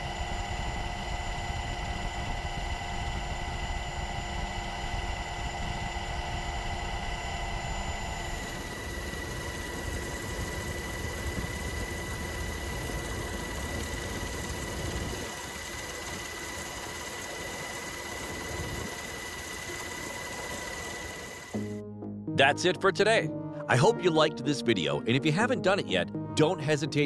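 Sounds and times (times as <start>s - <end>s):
aircraft engines droning: 4.8s - 27.0s.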